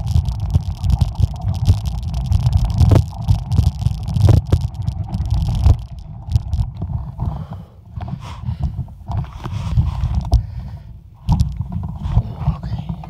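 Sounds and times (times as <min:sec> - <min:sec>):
bike rattling over rocky trail: 0:00.0 - 0:13.0.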